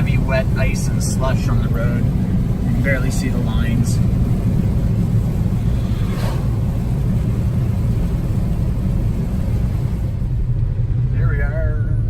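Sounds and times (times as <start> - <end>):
tyres running through slush: 0.0 - 10.4.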